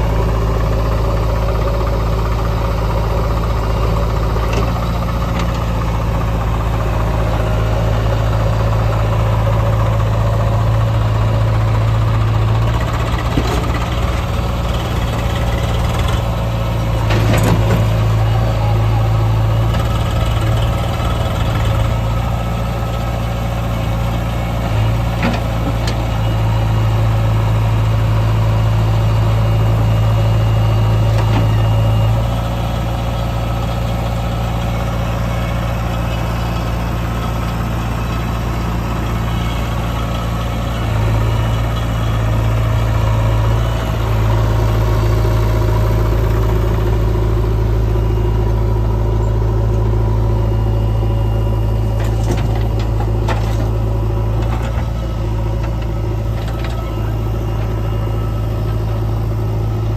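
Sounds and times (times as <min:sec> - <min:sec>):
backhoe diesel engine running: 0:00.0 - 0:59.9.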